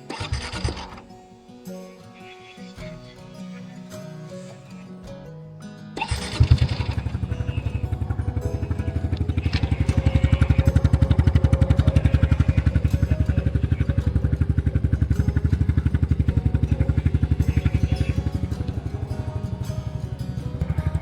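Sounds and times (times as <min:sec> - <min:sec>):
motorcycle engine idling: 0:00.0 - 0:04.7, 0:06.0 - 0:21.0.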